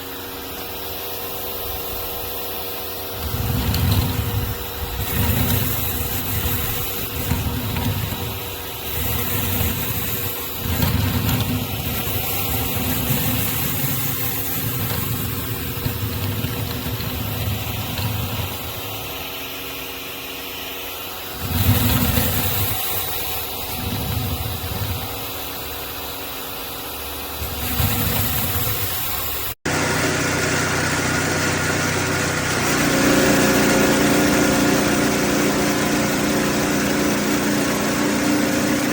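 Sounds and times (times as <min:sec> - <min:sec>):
pressure washer running: 0:00.0 - 0:38.9
surface cleaner spray hissing: 0:00.0 - 0:38.9.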